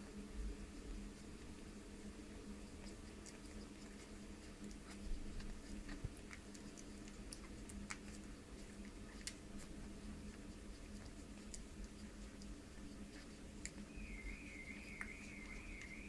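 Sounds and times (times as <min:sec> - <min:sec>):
steady low hum: 0:00.0 - 0:16.0
puppies suckling wet clicks: 0:00.6 - 0:16.0.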